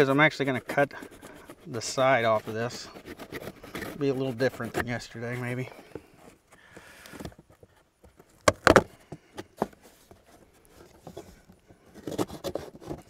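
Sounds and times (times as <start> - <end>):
cardboard scrapes and rustles: 0.0 - 13.0.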